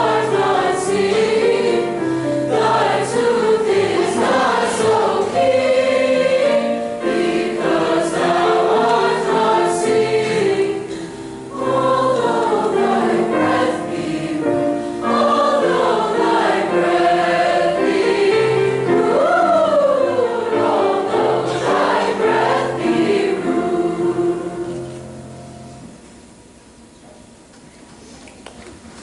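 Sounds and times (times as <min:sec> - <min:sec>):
choir singing in parts: 0:00.0 - 0:25.4.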